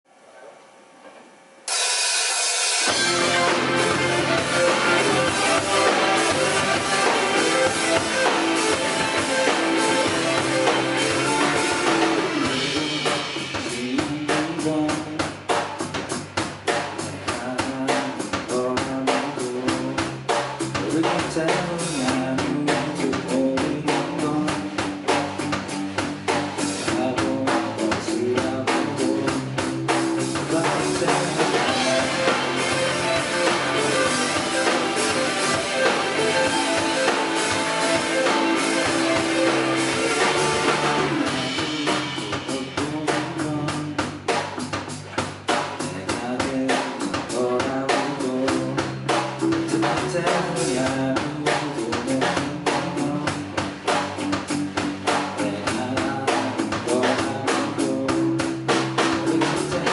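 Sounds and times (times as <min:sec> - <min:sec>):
drums fast steady beat: 0:01.7 - 0:59.9
rock band playing live: 0:01.7 - 0:59.9.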